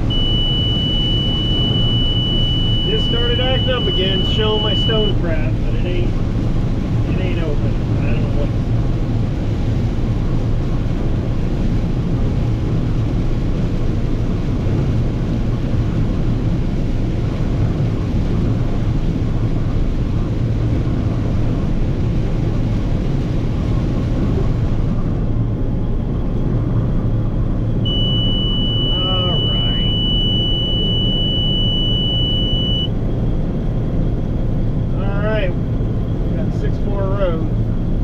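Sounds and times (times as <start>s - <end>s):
combine harvester running: 0.0s - 38.0s.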